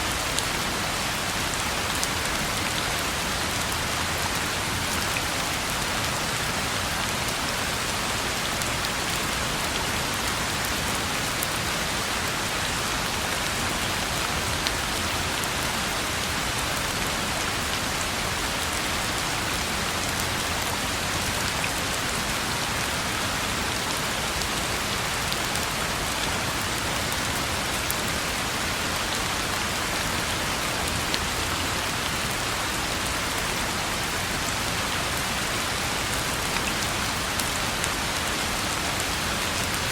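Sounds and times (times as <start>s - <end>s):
rain on a road: 0.0s - 39.9s.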